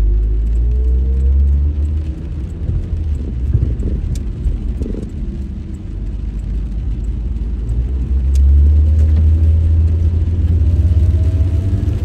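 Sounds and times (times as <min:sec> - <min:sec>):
car driving on wet road: 0:00.0 - 0:12.0.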